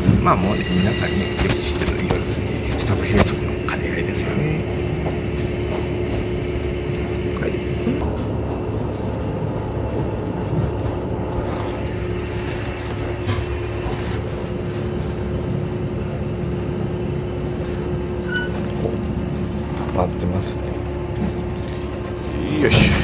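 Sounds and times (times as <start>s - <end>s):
constant hum: 0.0s - 23.0s
train engine and wheels rumbling: 0.0s - 23.0s.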